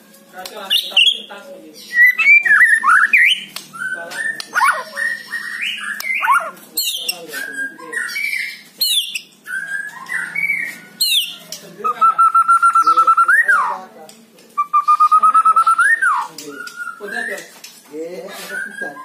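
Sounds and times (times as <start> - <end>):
bird singing whistled phrases and trills: 0.7 - 13.9, 14.6 - 17.6, 18.4 - 19.0.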